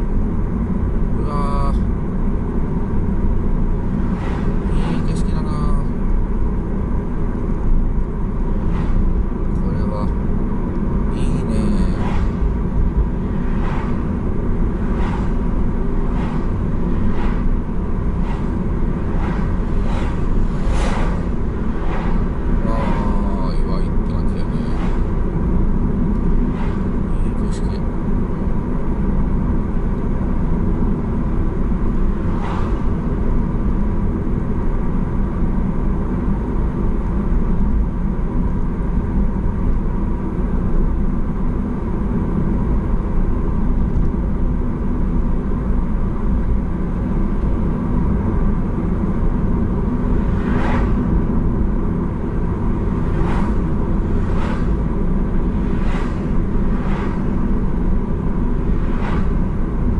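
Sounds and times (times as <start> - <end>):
car driving interior rumble: 0.0 - 59.9.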